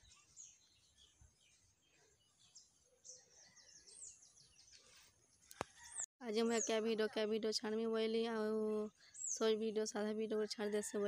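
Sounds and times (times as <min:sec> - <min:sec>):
faint birds chirping: 0:00.0 - 0:10.9.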